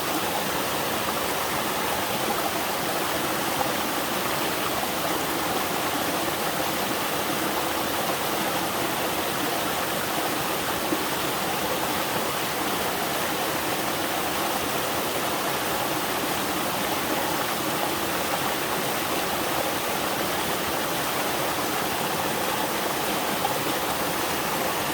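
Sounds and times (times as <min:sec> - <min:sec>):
small waterfall rushing: 0:00.0 - 0:24.9.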